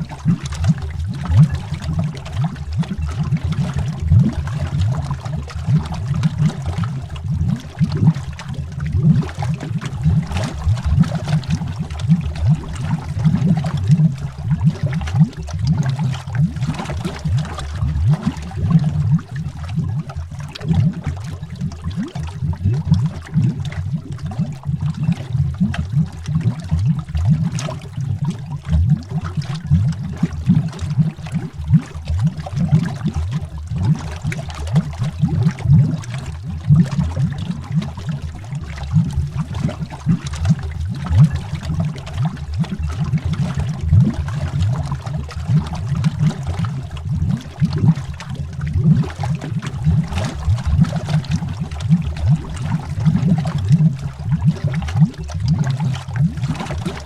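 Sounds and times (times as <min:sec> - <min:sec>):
underwater bubbling: 0:00.0 - 0:57.0.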